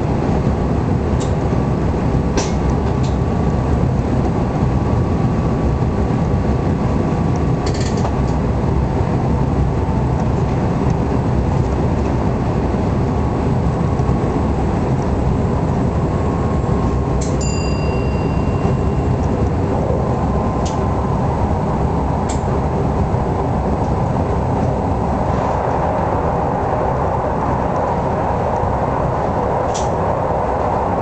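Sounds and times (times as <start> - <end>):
train wheels rumbling on rail: 0.0 - 31.0
high whine: 3.0 - 31.0.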